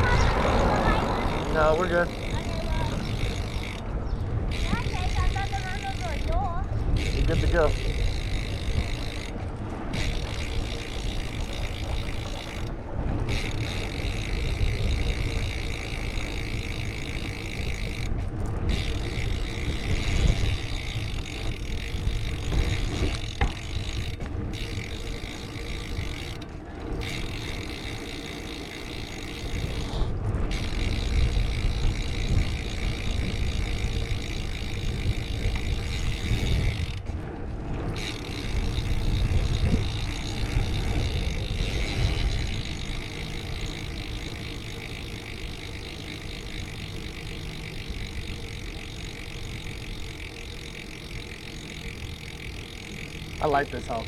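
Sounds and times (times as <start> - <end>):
tyre and road noise: 0.0 - 54.0
wind buffeting microphone: 0.0 - 54.0.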